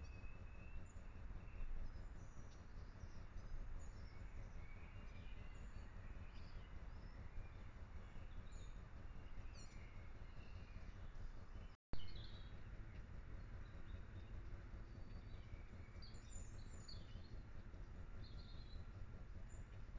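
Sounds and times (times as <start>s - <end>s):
low background rumble: 0.0s - 19.9s.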